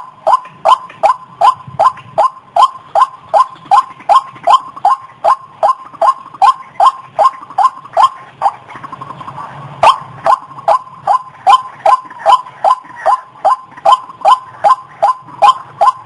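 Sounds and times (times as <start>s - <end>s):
thin steady tone: 0.0s - 9.0s, 9.8s - 16.0s
waterhen croaking calls: 0.0s - 16.0s.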